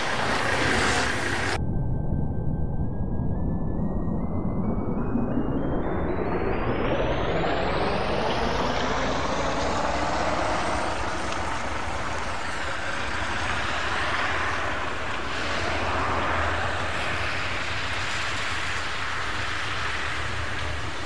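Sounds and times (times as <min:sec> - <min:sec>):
train drone and rumble: 0:00.0 - 0:21.0.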